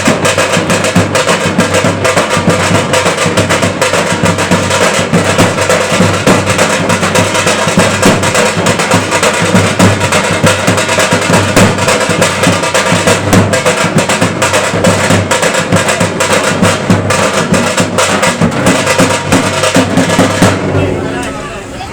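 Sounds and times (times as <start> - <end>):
fast continuous drumming: 0.0 - 21.5.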